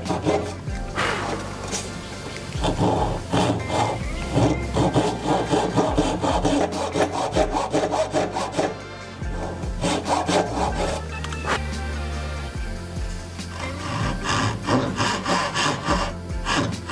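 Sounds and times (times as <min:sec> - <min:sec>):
hand saw cutting wood: 0:00.0 - 0:11.7, 0:13.4 - 0:16.9.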